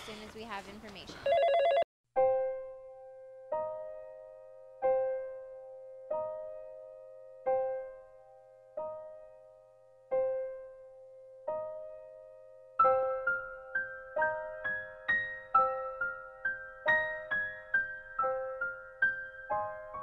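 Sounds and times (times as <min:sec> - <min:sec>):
slow gentle piano music: 0:02.2 - 0:20.0.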